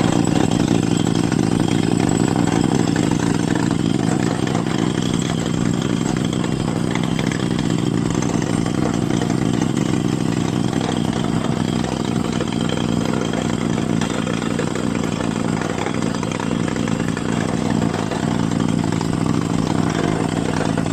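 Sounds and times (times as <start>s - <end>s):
drilling rig engine droning: 0.0s - 20.9s.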